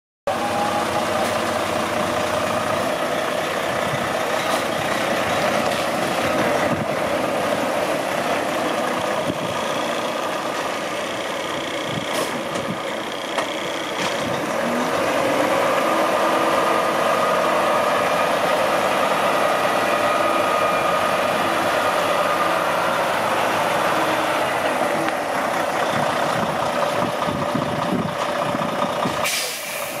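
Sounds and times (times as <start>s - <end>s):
truck diesel engine running: 0.3s - 30.0s.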